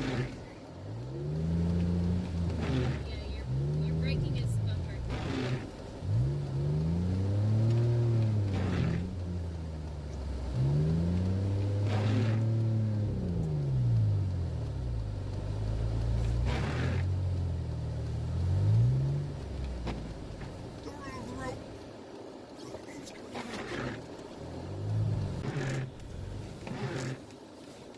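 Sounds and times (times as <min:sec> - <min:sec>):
vehicle engine revving: 0:00.0 - 0:27.9.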